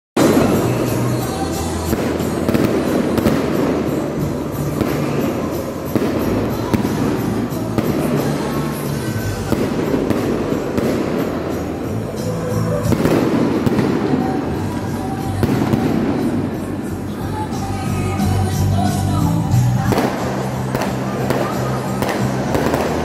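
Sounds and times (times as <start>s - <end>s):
fireworks bursting and crackling: 0.2s - 23.0s.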